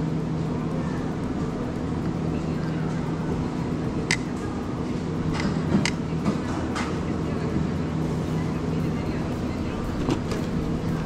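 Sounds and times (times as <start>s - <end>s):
murmur of voices: 0.0s - 11.0s
steady low hum: 0.0s - 11.0s.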